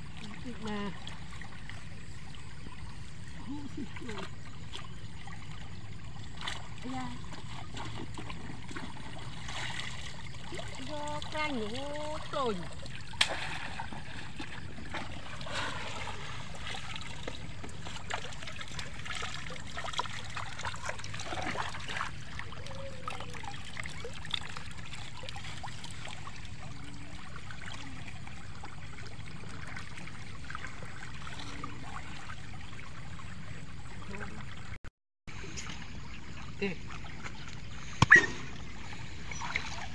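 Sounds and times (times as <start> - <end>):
shallow water trickling: 0.0 - 39.9
small splashes and knocks: 0.0 - 39.9.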